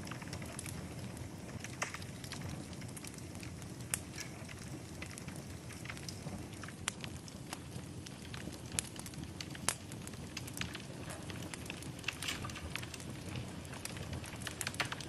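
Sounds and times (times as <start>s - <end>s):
fire crackles and snaps: 0.0s - 15.0s
fire rumbling in fireplace: 0.0s - 15.0s.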